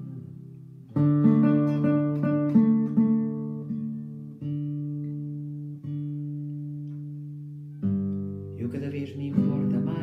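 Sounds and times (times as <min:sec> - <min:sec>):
fingerpicked classical guitar: 0:00.0 - 0:10.0.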